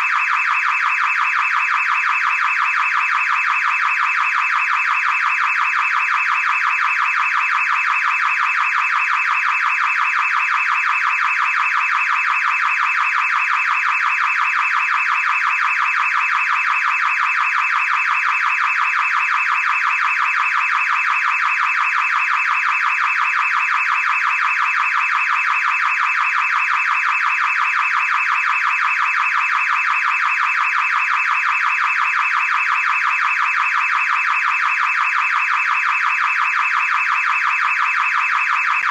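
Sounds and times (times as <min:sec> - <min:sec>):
car alarm pulsing tone: 0:00.0 - 0:38.9.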